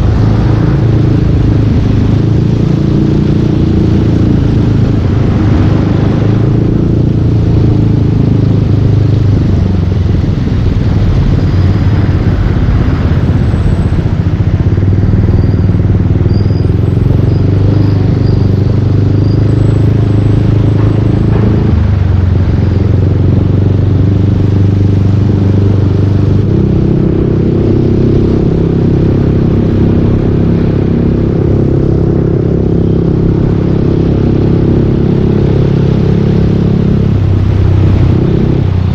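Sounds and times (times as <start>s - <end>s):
steady rushing noise: 0.0s - 38.9s.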